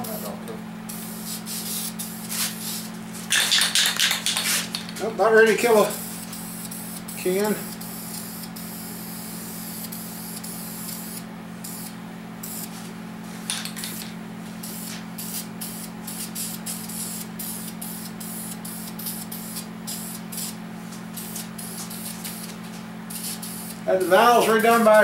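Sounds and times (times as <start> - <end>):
spray paint can hissing: 0.9 - 4.9, 6.0 - 12.7, 13.8 - 20.6, 21.2 - 25.0.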